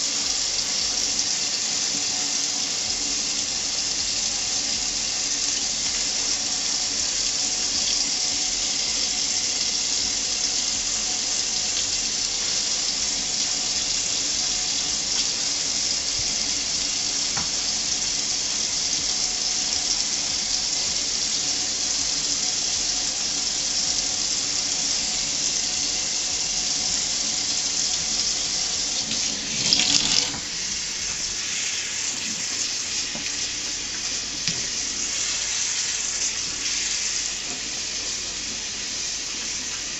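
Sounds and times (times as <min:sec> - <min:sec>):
faucet water running into sink: 0:00.0 - 0:39.9.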